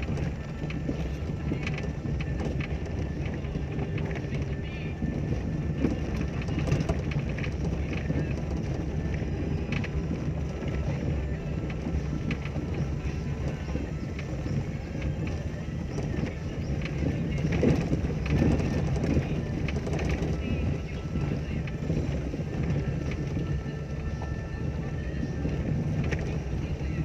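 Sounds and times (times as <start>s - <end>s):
car engine and tyres rumbling: 0.0s - 27.0s
car knocking and rattling: 0.0s - 27.0s.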